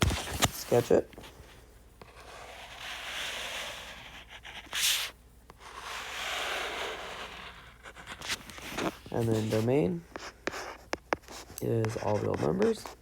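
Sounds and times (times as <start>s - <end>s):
pen scratch: 0.0s - 13.0s
pen drawing on paper: 1.8s - 13.0s.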